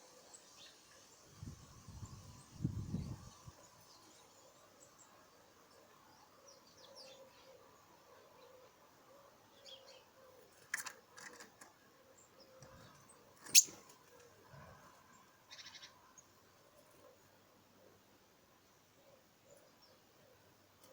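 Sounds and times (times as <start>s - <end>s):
birds chirping faintly: 0.0s - 20.9s.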